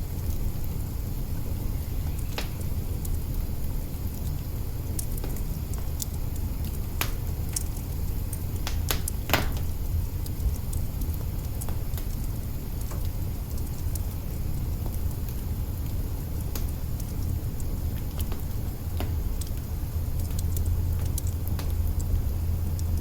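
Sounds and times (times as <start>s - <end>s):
fire crackling and snapping: 0.0s - 23.0s
log fire rumbling: 0.0s - 23.0s
loud fire pops: 2.2s - 3.4s, 4.8s - 23.0s.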